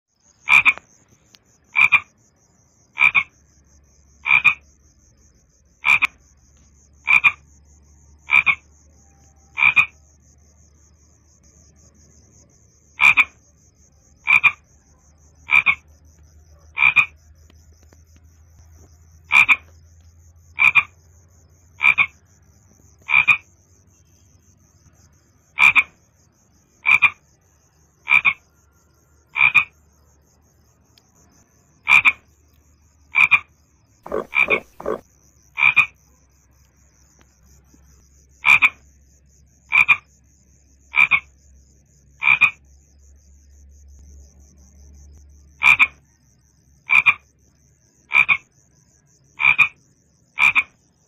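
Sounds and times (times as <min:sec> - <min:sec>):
frog croaking: 0:00.2 - 0:44.6, 0:45.2 - 0:51.0.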